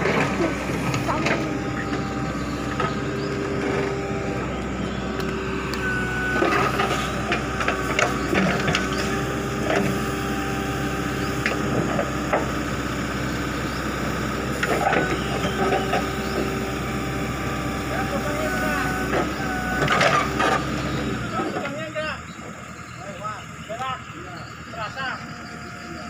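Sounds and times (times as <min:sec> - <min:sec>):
diesel engine running with whine: 0:00.0 - 0:26.0.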